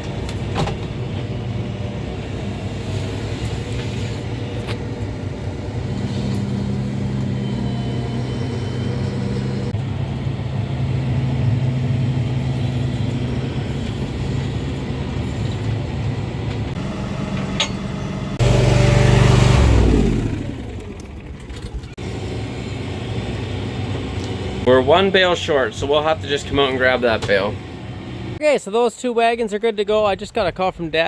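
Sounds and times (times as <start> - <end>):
tractor engine running: 0.0 - 28.4
louder engine winding down: 1.7 - 15.3, 16.3 - 28.4.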